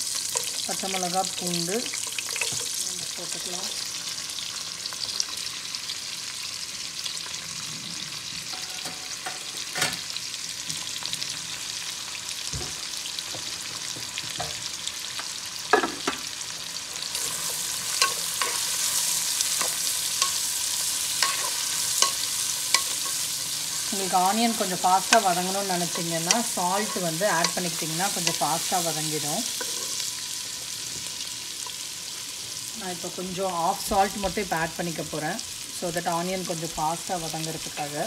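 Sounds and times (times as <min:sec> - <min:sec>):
onions sizzling in hot oil: 0:00.0 - 0:38.0.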